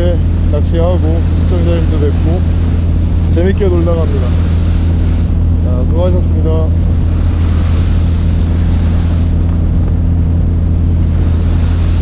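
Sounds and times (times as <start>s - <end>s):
boat engine droning: 0.0s - 12.0s
wind and water hiss: 0.0s - 12.0s.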